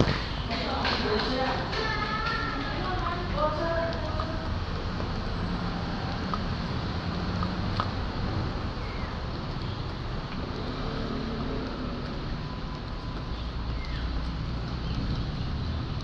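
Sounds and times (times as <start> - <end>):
street traffic rumble: 0.0 - 16.0
vehicle engine hum: 0.0 - 16.0.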